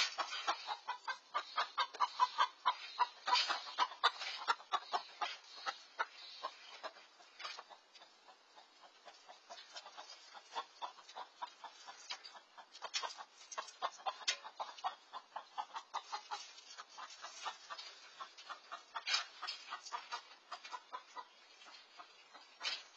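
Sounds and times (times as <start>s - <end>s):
chickens clucking in alarm: 0.0s - 22.9s.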